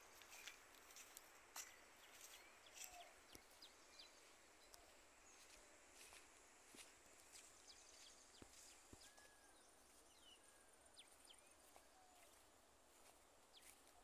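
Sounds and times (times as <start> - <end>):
soft bird chirps: 0.1 - 14.0.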